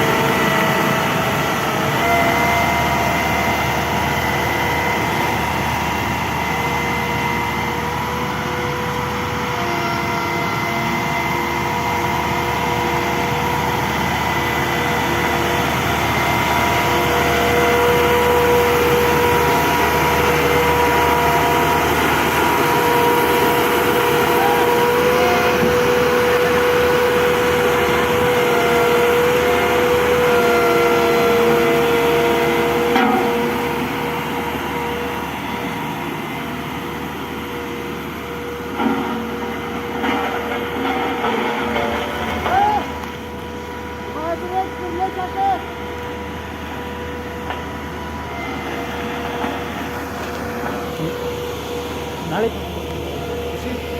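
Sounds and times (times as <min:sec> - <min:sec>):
hydraulic pump running: 0:00.0 - 0:53.9
steady machine whine: 0:00.0 - 0:53.9.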